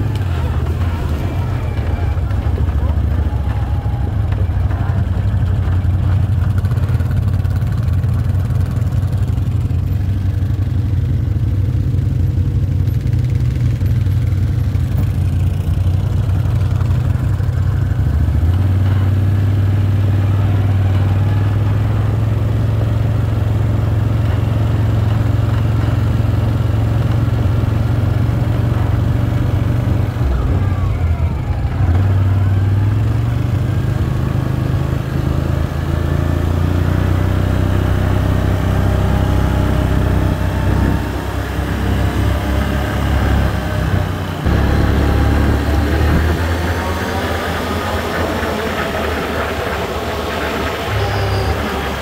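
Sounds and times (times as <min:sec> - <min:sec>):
quad bike engine running: 0:00.0 - 0:52.0.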